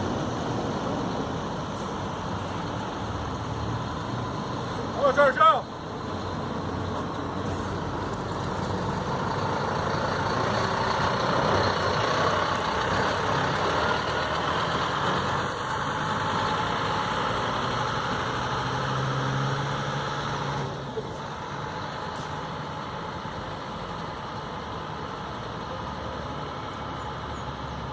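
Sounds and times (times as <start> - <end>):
bus engine running: 0.0 - 27.9.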